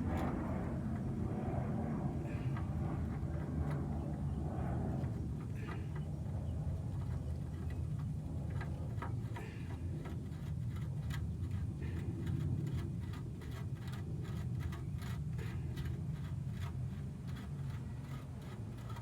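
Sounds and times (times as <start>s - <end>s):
steady low rumble: 0.0s - 19.0s
oil filter clicking and scraping: 2.2s - 19.0s.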